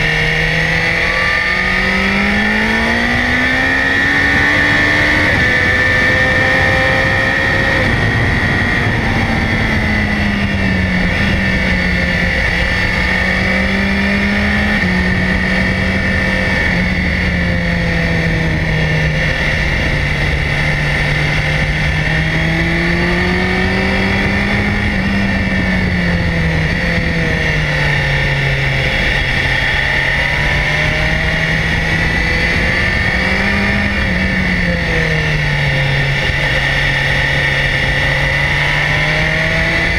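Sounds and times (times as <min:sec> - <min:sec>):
motorcycle engine running: 0:00.0 - 0:39.9
steady high whine: 0:00.0 - 0:39.9.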